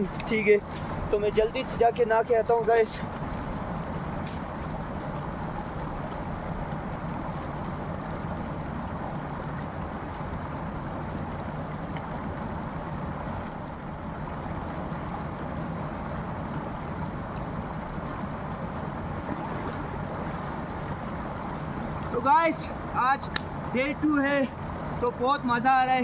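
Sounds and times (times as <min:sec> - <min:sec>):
stream of running water: 0:00.0 - 0:26.0.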